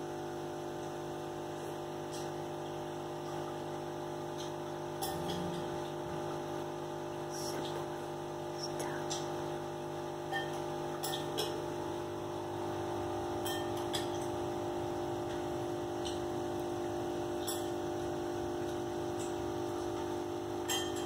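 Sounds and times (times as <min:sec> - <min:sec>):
aquarium equipment humming: 0:00.0 - 0:21.0.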